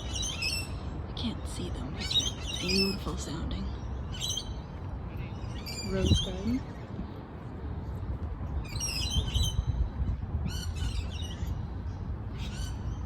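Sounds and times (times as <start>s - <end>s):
songbirds chirping: 0.0s - 13.0s
steady low rumble: 0.0s - 13.0s.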